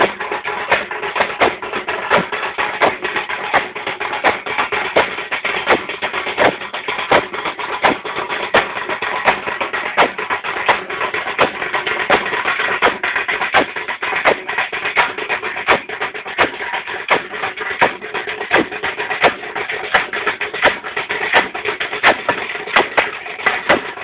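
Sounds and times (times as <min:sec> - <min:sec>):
heavy drum beat: 0:00.0 - 0:24.0.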